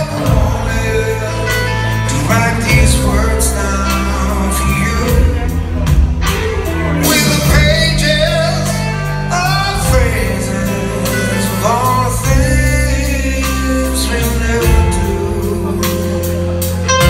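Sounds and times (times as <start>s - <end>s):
drums: 0.0s - 17.0s
electric guitars: 0.0s - 17.0s
man singing: 0.0s - 17.0s.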